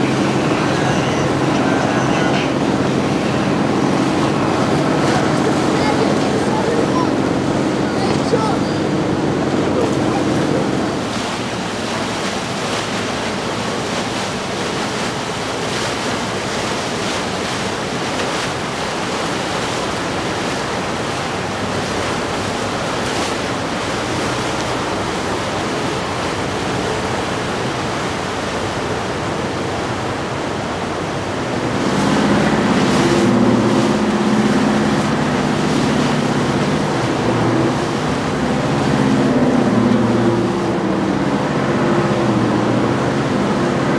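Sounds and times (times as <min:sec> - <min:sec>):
motor yacht engines droning: 0:00.0 - 0:43.9
water rushing: 0:00.0 - 0:43.9
wind: 0:00.0 - 0:43.9.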